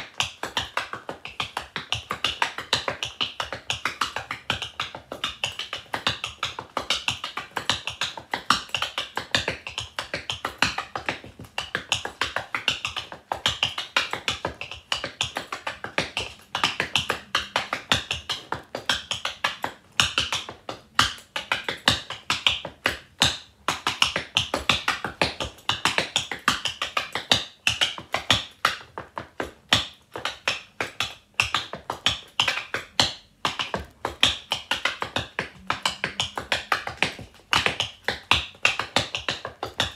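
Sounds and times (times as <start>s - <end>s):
tap shoes on wooden floor: 0.0s - 39.9s.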